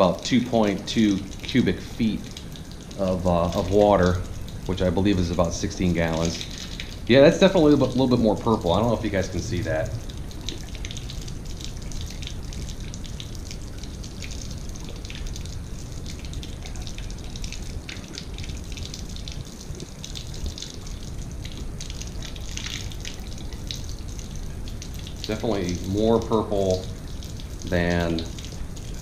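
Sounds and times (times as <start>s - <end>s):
water splashing onto concrete floor: 0.0s - 29.0s.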